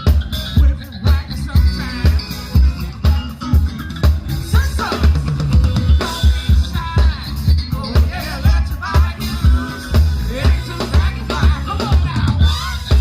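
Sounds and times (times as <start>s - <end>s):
bending guitar or keyboard lines: 0.0s - 13.0s
live band playing funk: 0.0s - 13.0s.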